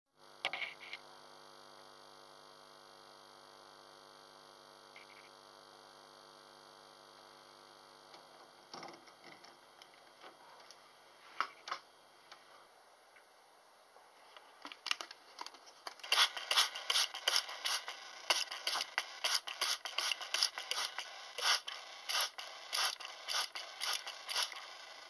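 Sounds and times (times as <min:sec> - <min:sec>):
faint electrical mains hum: 0:00.2 - 0:25.0.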